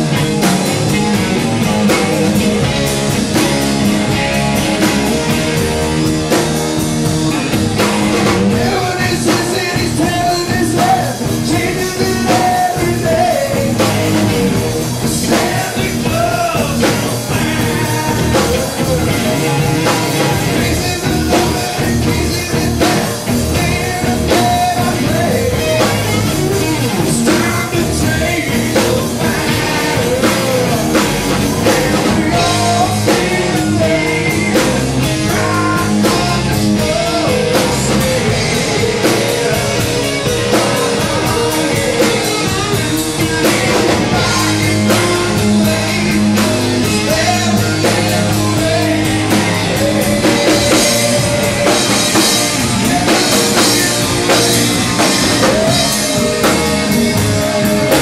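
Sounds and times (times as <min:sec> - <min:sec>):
drum kit: 0:00.0 - 0:58.0
electric guitar: 0:00.0 - 0:58.0
person singing: 0:08.1 - 0:58.0.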